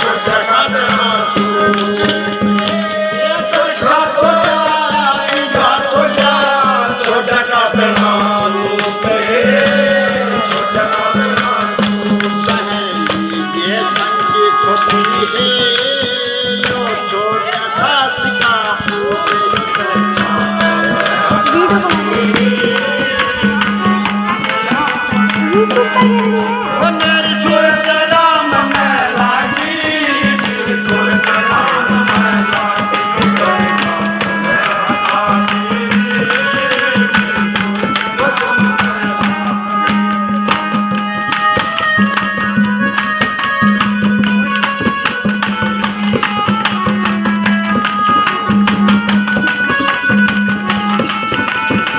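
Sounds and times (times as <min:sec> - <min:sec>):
folk devotional music: 0:00.0 - 0:51.9
jingling tambourine percussion: 0:00.0 - 0:51.9.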